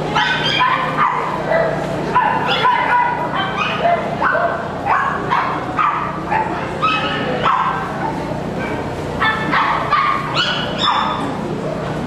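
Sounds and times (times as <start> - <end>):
small dogs yapping and barking: 0.1 - 11.4.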